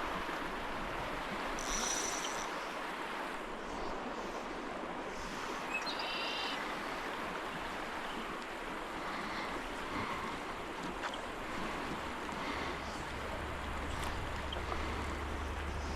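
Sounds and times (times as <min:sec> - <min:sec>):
stream rushing: 0:00.0 - 0:15.9.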